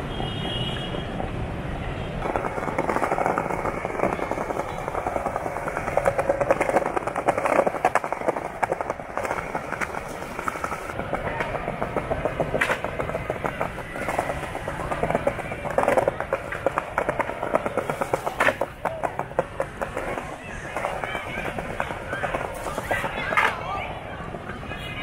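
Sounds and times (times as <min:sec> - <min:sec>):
skateboard wheels rolling on pavement: 0:00.0 - 0:25.0
skateboard clack: 0:00.1 - 0:25.0.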